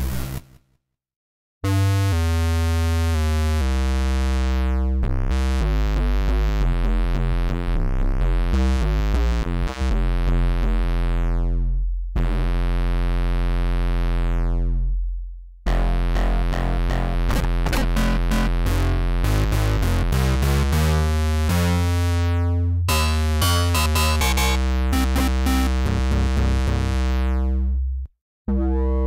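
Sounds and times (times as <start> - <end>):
deep synth bass line: 1.6 - 29.0.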